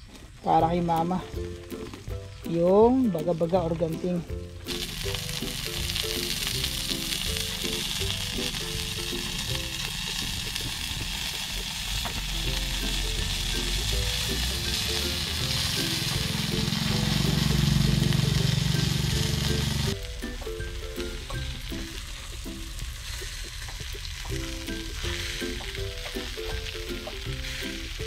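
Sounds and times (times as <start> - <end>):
fish sizzling over fire: 0.0 - 28.0.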